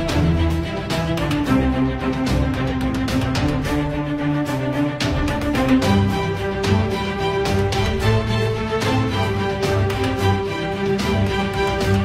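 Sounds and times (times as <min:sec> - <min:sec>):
soundtrack music with steady beat: 0:00.0 - 0:12.0.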